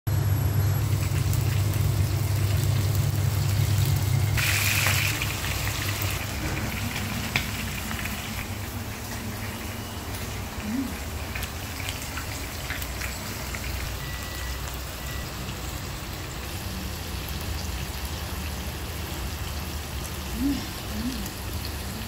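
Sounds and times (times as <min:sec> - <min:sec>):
meat sizzling in frying pan: 0:00.8 - 0:22.0.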